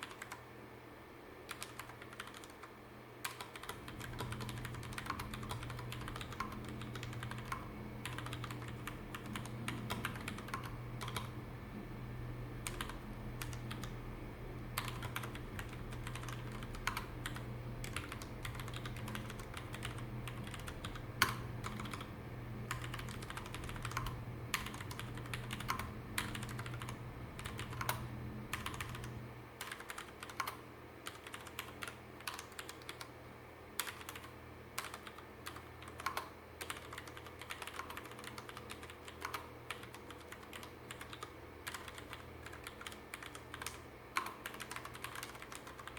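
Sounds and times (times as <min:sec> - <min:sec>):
mechanical keyboard typing: 0:00.0 - 0:00.4, 0:01.5 - 0:11.3, 0:12.6 - 0:14.0, 0:14.8 - 0:22.1, 0:22.7 - 0:33.1, 0:33.8 - 0:45.9.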